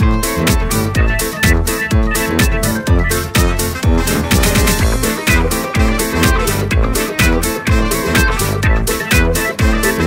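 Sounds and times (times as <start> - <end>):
upbeat electronic dance music: 0.0 - 10.0.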